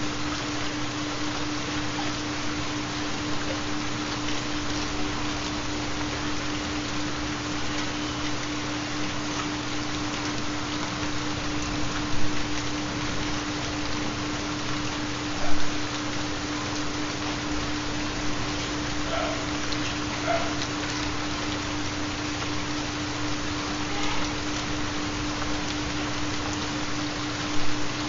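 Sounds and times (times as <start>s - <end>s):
rain falling steadily: 0.0s - 28.0s
rain spatters: 0.0s - 28.0s.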